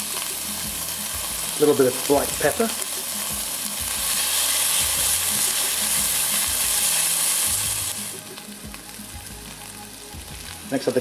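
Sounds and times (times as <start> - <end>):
onions sizzling in a frying pan: 0.0 - 11.0.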